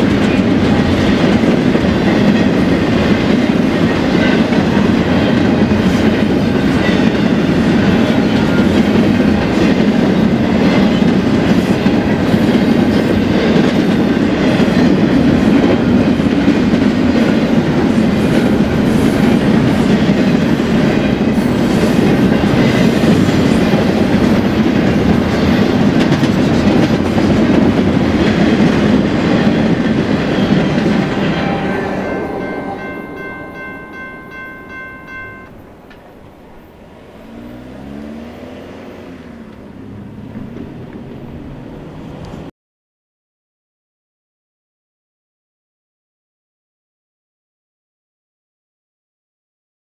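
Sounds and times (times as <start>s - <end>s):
freight train rumbling past: 0.0s - 42.5s
wheels clacking over rails: 0.0s - 42.5s.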